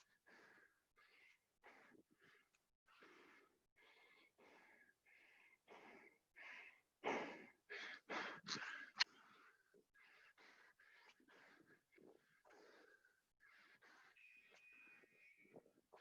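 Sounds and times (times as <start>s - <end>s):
person breathing hard and wheezily: 0.0s - 16.0s.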